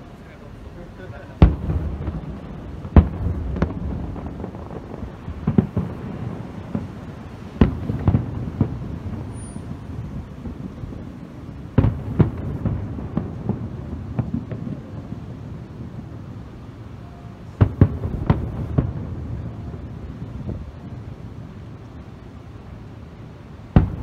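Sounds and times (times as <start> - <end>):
firework shells booming: 0.8 - 16.4, 17.5 - 21.6, 23.7 - 24.0.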